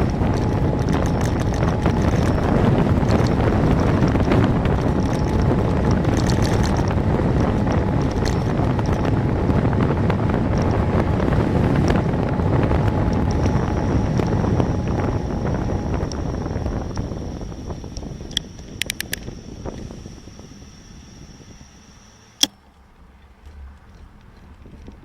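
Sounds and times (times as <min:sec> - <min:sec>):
road noise: 0:00.0 - 0:25.0
wind rushing over microphone: 0:00.0 - 0:25.0.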